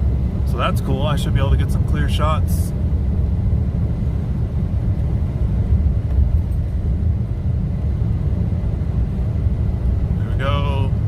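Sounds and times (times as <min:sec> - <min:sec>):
engine and road noise in cab: 0:00.0 - 0:11.0.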